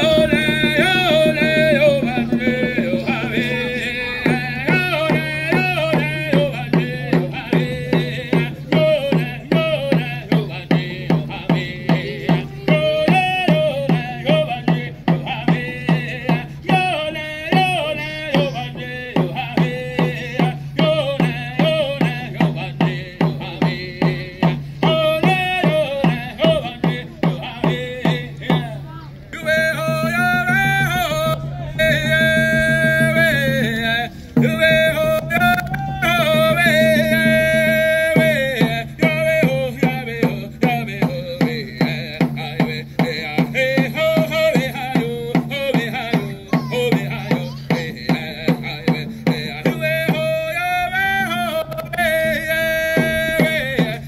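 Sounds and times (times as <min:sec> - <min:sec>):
person chanting: 0:00.0 - 0:54.0
water drum beat: 0:00.0 - 0:54.0.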